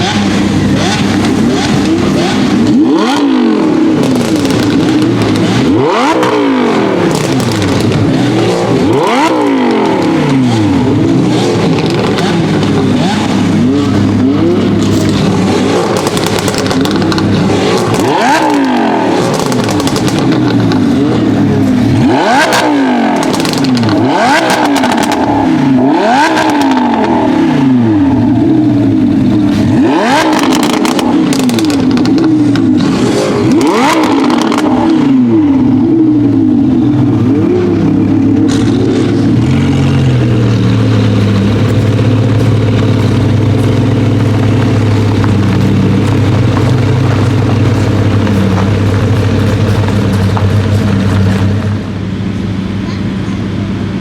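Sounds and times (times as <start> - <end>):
exhaust crackles and pops: 0.0 - 52.4
car engine revving: 0.0 - 52.8.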